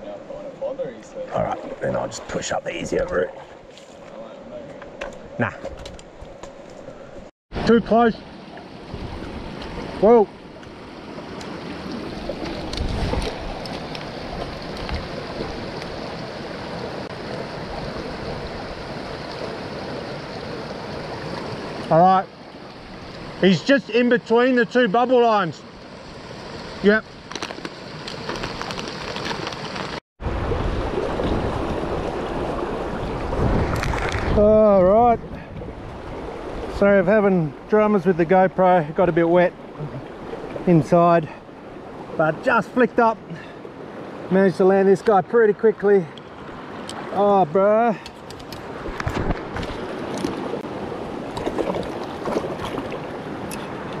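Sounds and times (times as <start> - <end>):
river water rushing: 7.6 - 34.4, 35.7 - 54.0.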